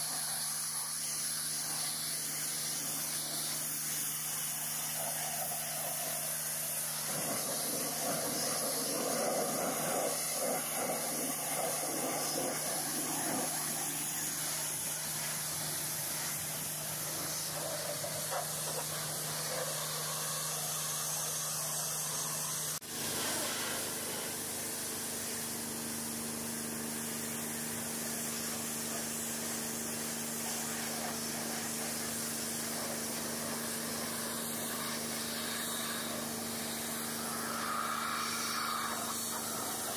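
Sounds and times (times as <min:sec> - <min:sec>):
pressure washer jet hissing: 0:00.0 - 0:39.9.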